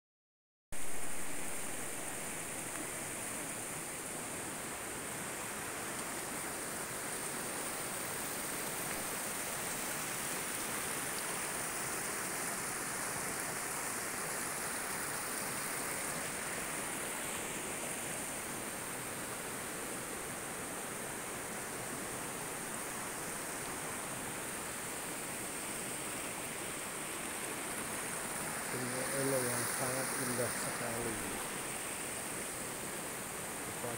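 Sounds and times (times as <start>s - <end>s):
river rushing over rocks: 0.8s - 33.9s.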